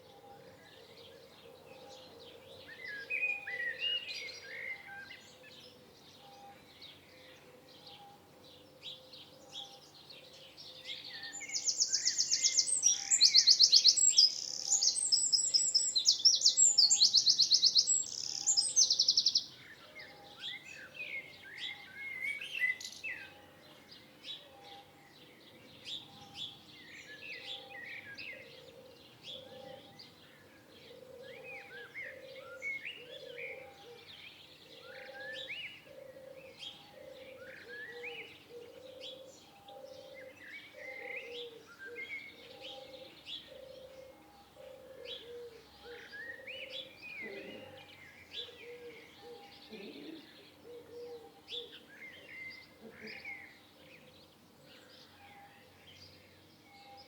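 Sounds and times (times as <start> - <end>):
birds chirping: 0.9 - 57.0.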